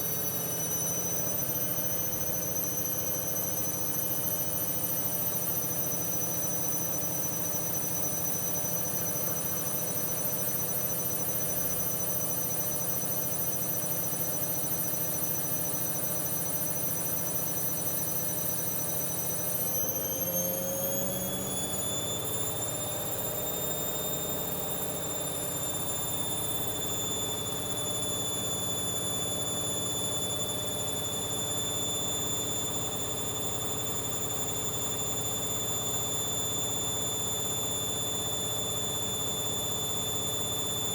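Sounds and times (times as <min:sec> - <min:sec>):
washing machine motor whine: 0:00.0 - 0:40.9.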